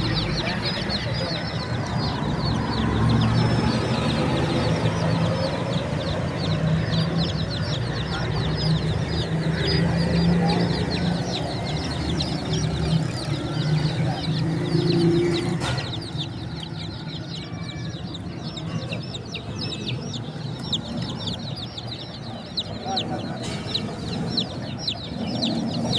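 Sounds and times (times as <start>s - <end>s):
baby chicks peeping: 0.0s - 25.9s.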